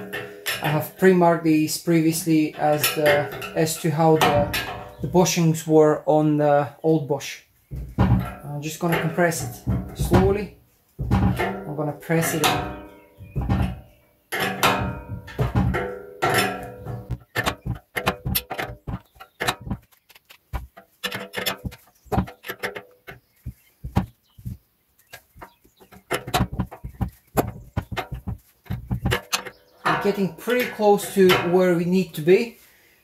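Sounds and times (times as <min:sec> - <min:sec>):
spanners clinking on metal: 0:00.0 - 0:05.4, 0:07.7 - 0:32.5.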